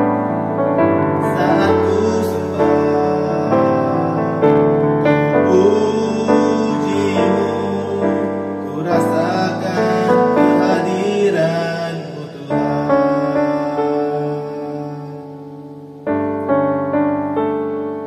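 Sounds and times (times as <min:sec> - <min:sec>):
piano chords: 0:00.0 - 0:18.0
man singing: 0:01.0 - 0:15.8.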